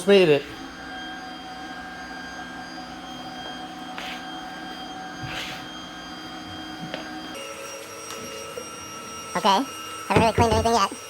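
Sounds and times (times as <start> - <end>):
robot vacuum whirring: 0.1 - 11.0.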